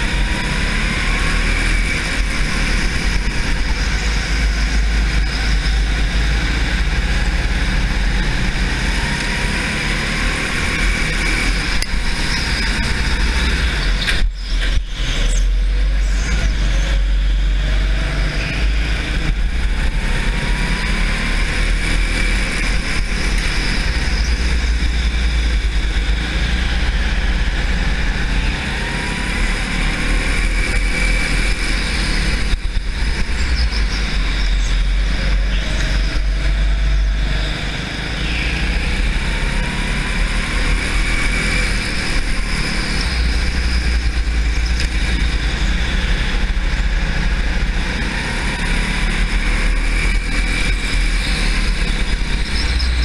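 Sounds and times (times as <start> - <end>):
racing kart engine drone: 0.0 - 53.0.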